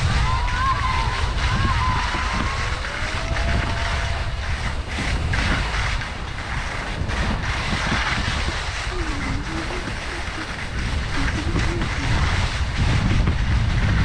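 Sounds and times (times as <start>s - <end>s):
skis knocking over bumps: 0.0s - 14.0s
skis scraping over snow: 0.0s - 14.0s
wind buffeting microphone: 0.0s - 14.0s.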